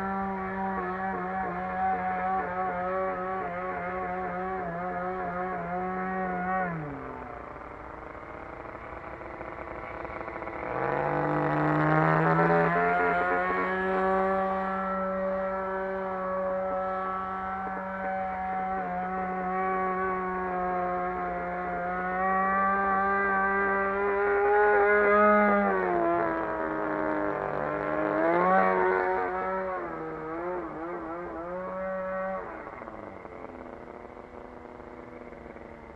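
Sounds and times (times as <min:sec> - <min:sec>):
model airplane engine running: 0:00.0 - 0:35.9.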